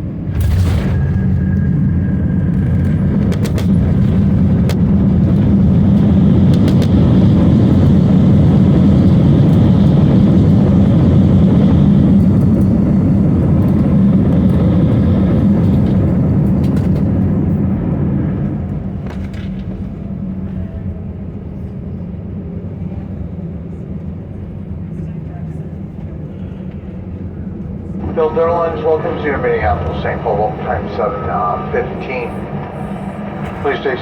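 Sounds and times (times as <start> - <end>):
jet engine roar in cabin: 0.0 - 34.0.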